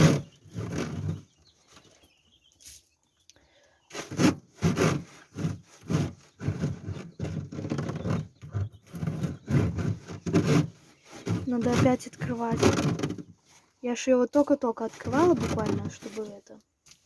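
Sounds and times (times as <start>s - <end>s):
scraping and rubbing strokes: 0.0s - 2.0s, 3.9s - 13.7s, 14.8s - 17.0s.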